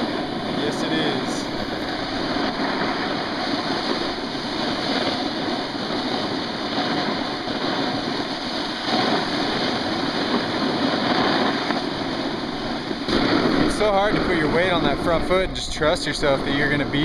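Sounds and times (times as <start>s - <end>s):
snowboard scraping on packed snow: 0.0s - 15.2s.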